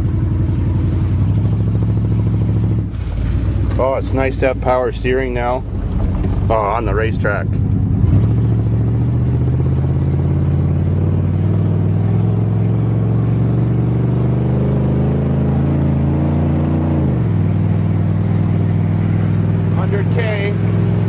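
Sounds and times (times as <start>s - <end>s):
engine pulling from inside cab: 0.0s - 21.0s.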